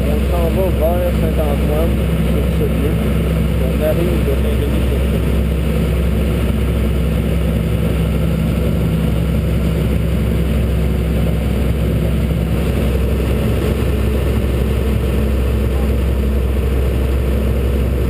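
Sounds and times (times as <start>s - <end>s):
engine droning steadily: 0.0s - 18.0s.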